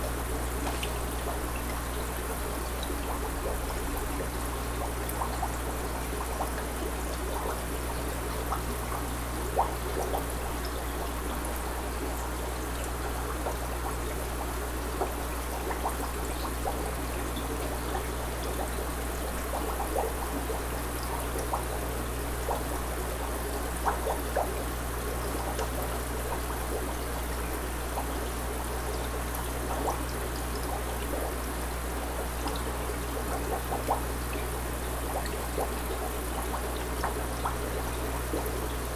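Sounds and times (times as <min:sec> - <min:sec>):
constant low hum: 0:00.0 - 0:38.9
water drips and bubbles: 0:00.0 - 0:38.9
water trickling: 0:00.0 - 0:38.9.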